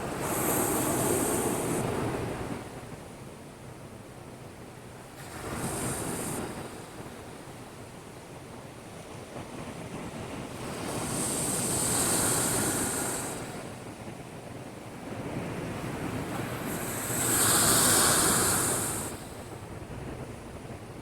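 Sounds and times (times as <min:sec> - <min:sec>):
storm waves surging against breakwater: 0:00.0 - 0:21.0.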